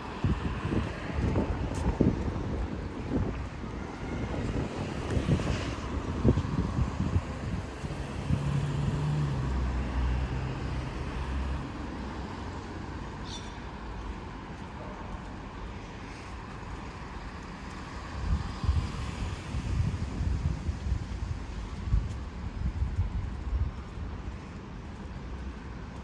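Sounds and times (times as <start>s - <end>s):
road noise: 0.0s - 26.0s
wind buffeting microphone: 0.0s - 26.0s.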